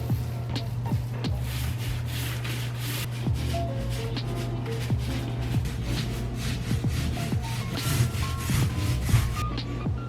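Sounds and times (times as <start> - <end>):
held bass: 0.0 - 9.7.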